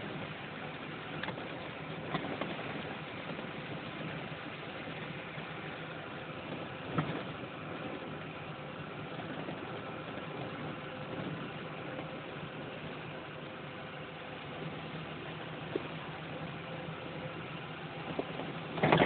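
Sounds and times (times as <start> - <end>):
tyres rolling over dirt road: 0.0 - 13.8, 14.4 - 19.0
vehicle engine running: 0.0 - 19.0.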